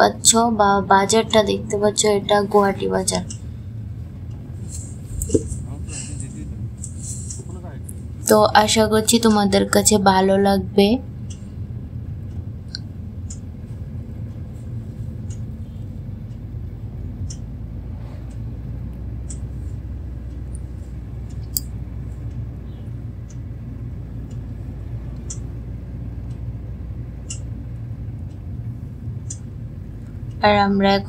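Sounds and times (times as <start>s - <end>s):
road and engine rumble in car: 0.0s - 31.0s.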